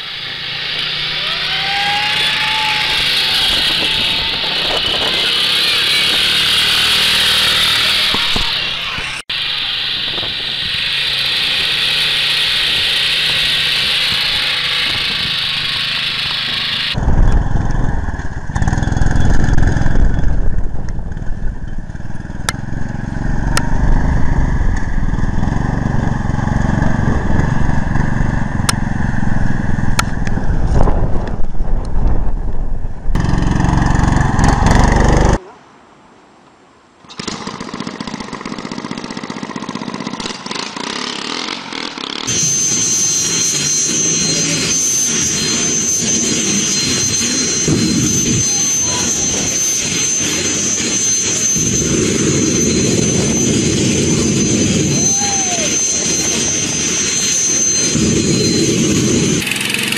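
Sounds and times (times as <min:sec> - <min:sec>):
small petrol engines running: 0:00.0 - 0:30.7, 0:33.1 - 0:35.4, 0:37.1 - 0:59.9.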